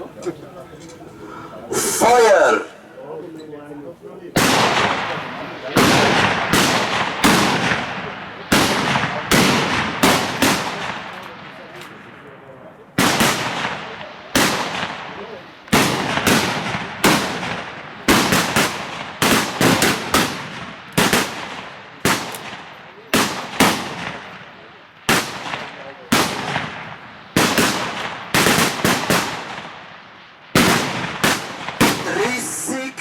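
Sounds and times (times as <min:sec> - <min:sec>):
rifle shots echoing: 0:04.4 - 0:12.0, 0:13.0 - 0:33.0.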